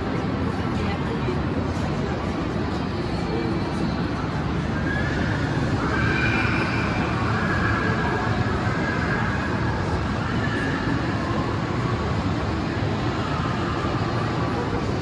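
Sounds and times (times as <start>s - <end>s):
many people talking: 0.0s - 15.0s.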